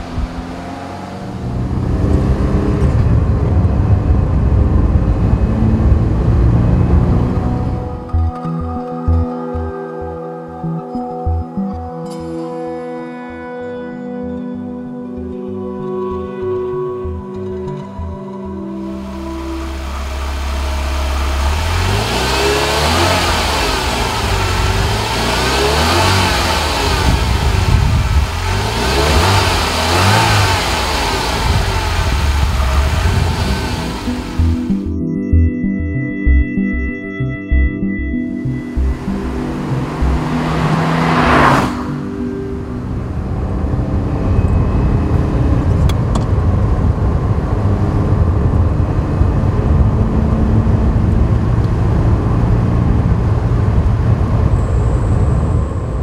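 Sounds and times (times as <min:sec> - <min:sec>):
car engine rumbling: 0:00.0 - 0:11.9, 0:17.1 - 0:35.0, 0:38.4 - 0:56.0.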